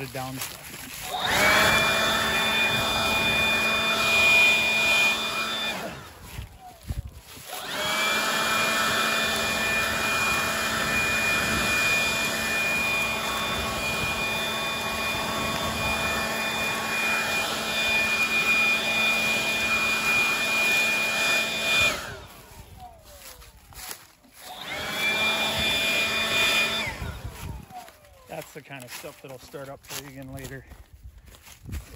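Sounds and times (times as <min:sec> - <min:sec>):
leaf blower high whine: 0:00.0 - 0:31.9.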